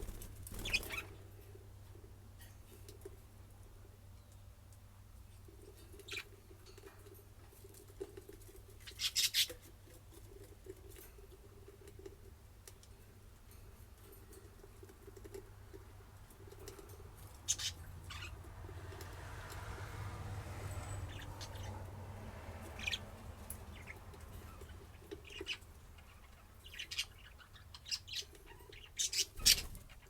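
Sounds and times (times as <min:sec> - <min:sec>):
birds scratching and clicking: 0:00.0 - 0:03.6, 0:04.3 - 0:30.0.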